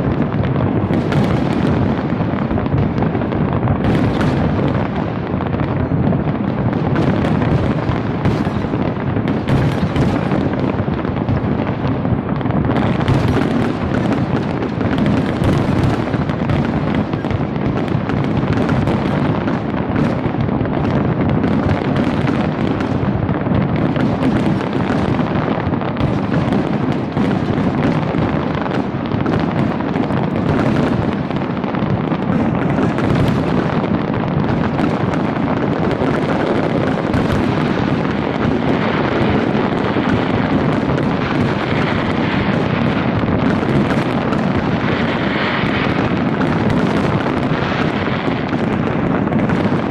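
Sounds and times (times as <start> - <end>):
fireworks bursting in rapid barrage: 0.0 - 49.9.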